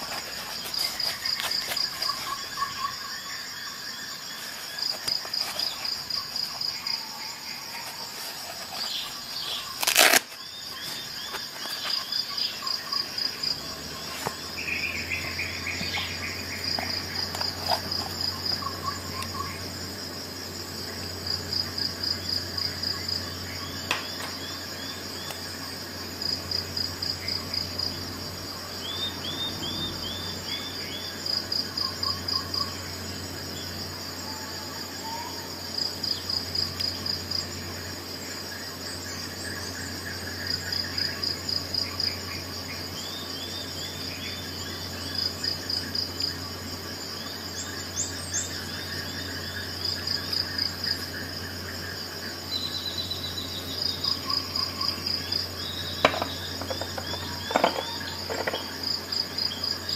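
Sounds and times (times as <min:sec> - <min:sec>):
insects chirping in trills: 0:00.0 - 0:59.9.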